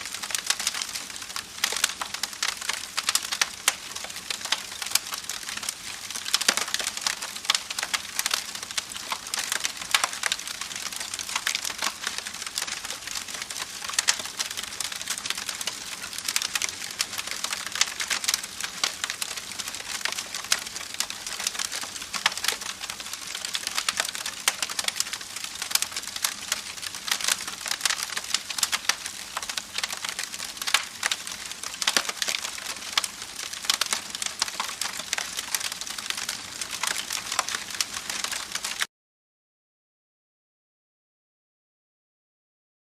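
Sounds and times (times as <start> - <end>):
soft hiss of fire: 0.0 - 38.9
wood fire crackling and popping: 0.0 - 38.9.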